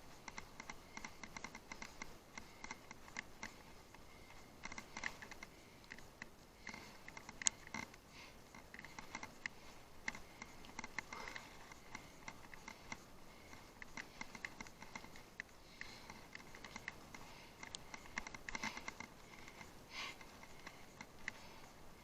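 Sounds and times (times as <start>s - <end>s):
bicycle clicks and rattles: 0.0s - 22.0s.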